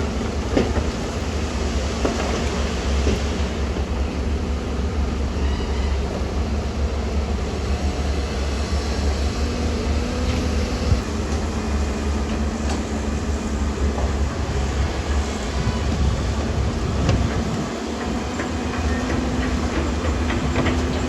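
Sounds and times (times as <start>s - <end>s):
heavy diesel machinery rumbling: 0.0s - 21.0s.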